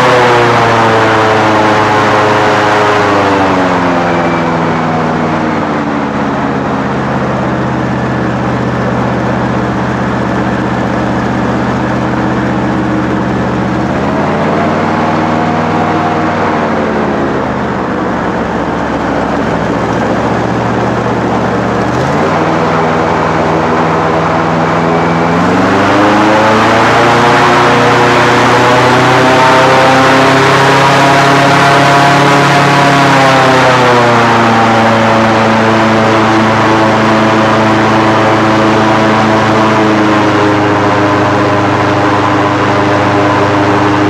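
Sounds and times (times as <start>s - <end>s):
airboat engine and propeller: 0.0s - 44.0s.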